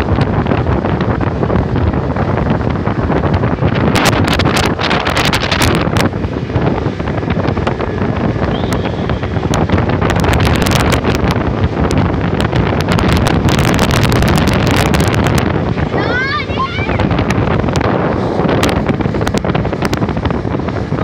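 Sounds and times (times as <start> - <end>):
motorboat running at speed: 0.0 - 21.0
wind buffeting the microphone: 0.0 - 21.0.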